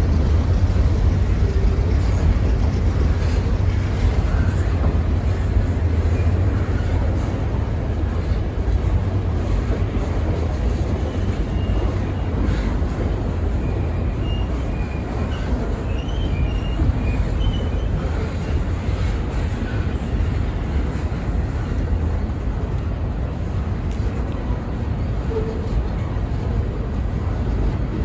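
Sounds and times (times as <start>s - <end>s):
freight train passing: 0.0s - 28.0s.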